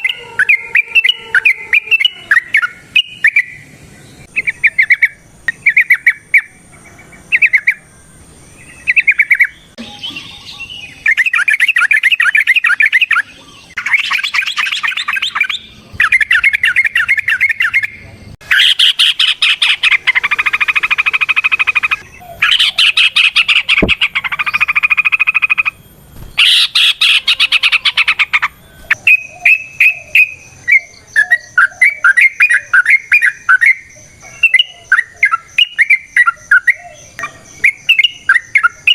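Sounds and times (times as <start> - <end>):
bird singing bubbling song: 0.0 - 38.9.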